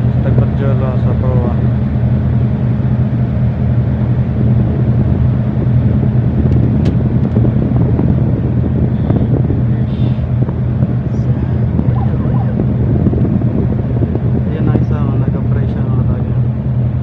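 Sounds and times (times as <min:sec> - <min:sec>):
boat diesel engines droning: 0:00.0 - 0:17.0.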